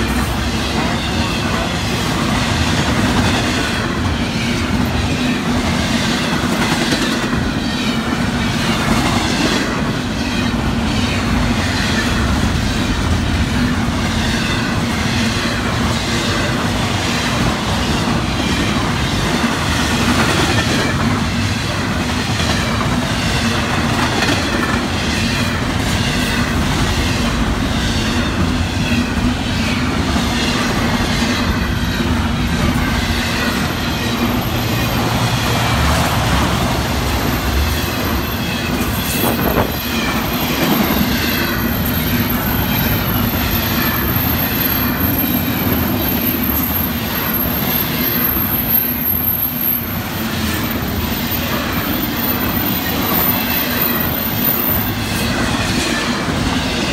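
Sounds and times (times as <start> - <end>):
freight train wheels rumbling: 0.0 - 56.9.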